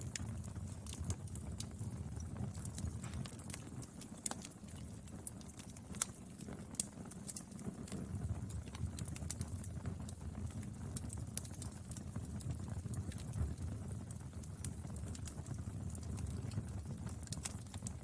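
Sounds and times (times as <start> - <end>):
burning wood crackling and popping: 0.0 - 18.0
low rumble of flame: 0.0 - 18.0.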